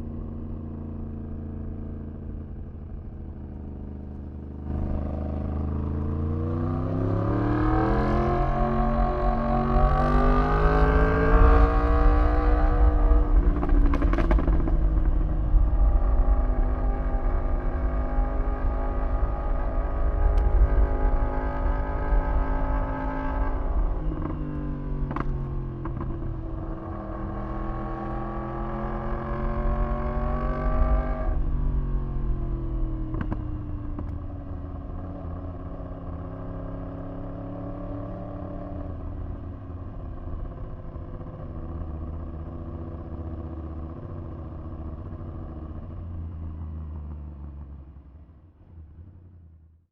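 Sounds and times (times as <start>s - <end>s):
motorcycle engine revving: 0.0s - 47.8s.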